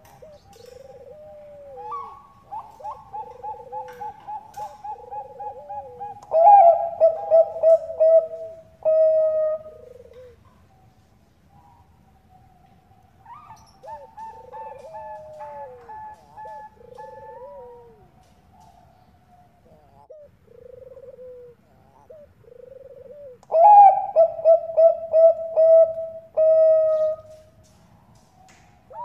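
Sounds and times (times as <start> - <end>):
bird singing staccato coos: 0.0 - 29.0
doves cooing: 0.0 - 29.0.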